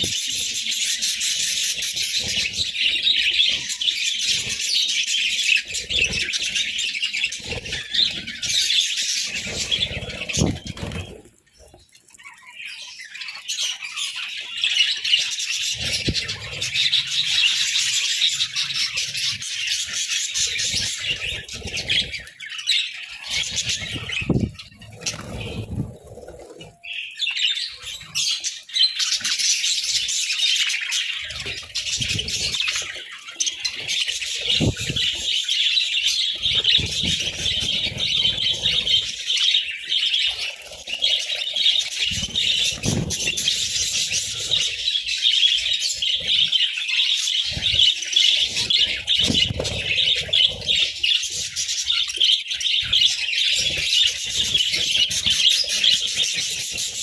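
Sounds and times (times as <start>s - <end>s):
budgerigars chattering: 0.0s - 11.2s, 12.3s - 57.0s.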